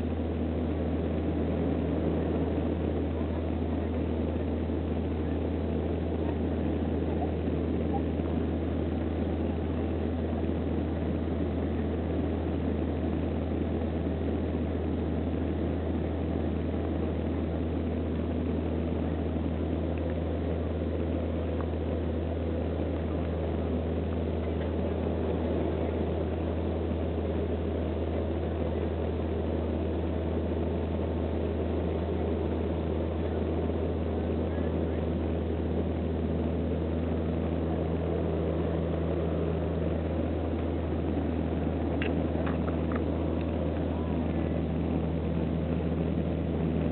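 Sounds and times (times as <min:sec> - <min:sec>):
turboprop engines droning in cabin: 0:00.0 - 0:46.9.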